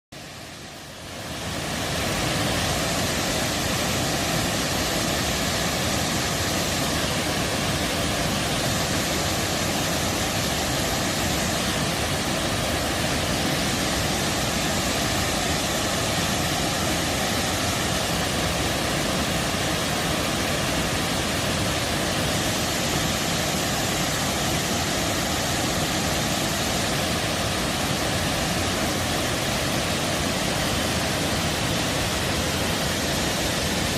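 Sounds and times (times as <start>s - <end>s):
waterfall roaring: 0.2s - 33.9s.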